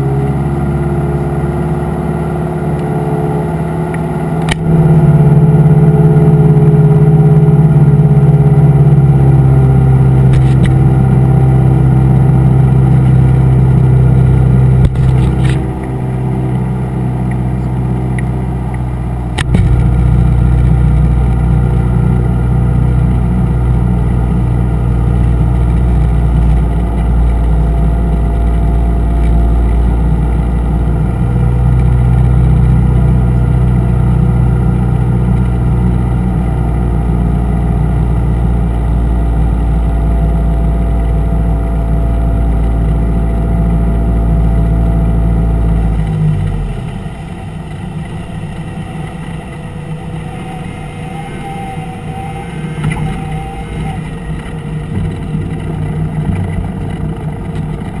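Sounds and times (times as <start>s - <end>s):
plane touching down on runway: 0.0s - 58.0s
propeller plane engine: 0.0s - 58.0s.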